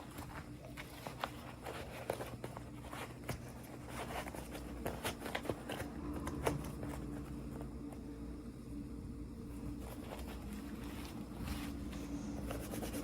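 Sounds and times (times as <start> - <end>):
plastic and cardboard packaging rustling: 0.0 - 8.1, 9.5 - 13.0
faint steady hum: 0.0 - 13.0.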